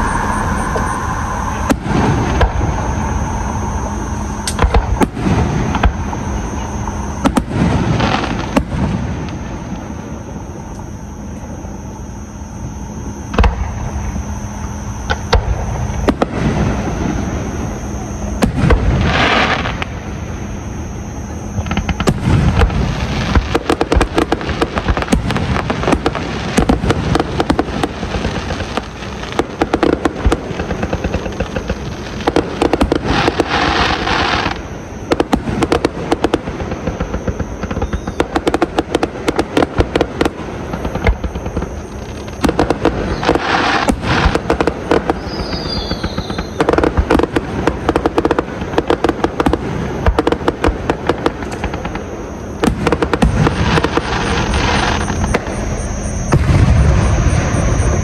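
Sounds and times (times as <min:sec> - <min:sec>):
falling firework whistle: 0:00.0 - 0:58.0
fireworks bangs and crackles: 0:00.0 - 0:58.0
hissing crackle: 0:00.0 - 0:58.0.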